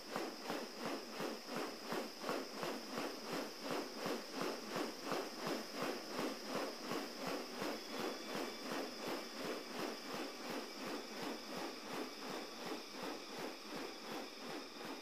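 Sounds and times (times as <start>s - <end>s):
bird wing feathers swishing: 0.0s - 15.0s.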